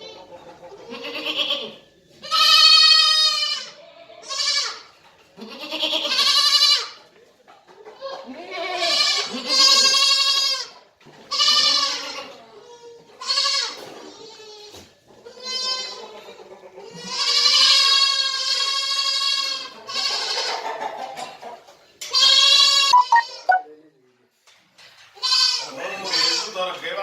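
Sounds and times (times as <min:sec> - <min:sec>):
goats bleating: 0:00.8 - 0:07.0, 0:08.0 - 0:20.8, 0:22.1 - 0:23.6, 0:25.2 - 0:26.6.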